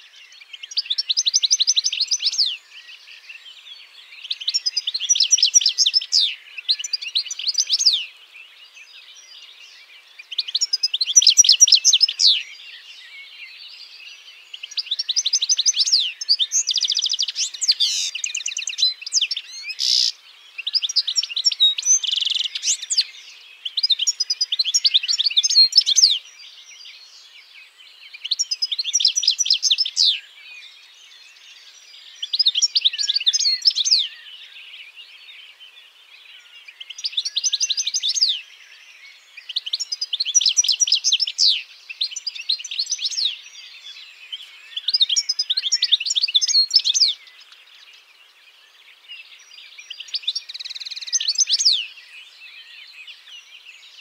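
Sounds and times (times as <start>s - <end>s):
goldfinch twittering song: 0.0s - 54.0s.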